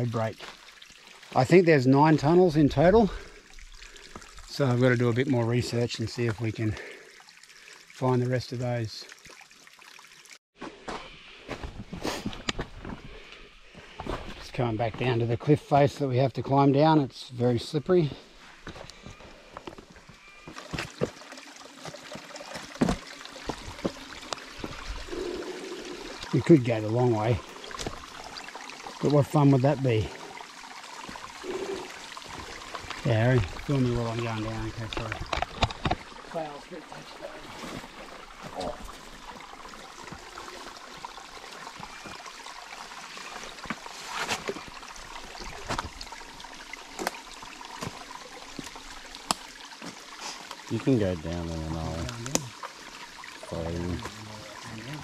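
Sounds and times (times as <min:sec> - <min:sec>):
running creek water: 0:00.0 - 0:55.0.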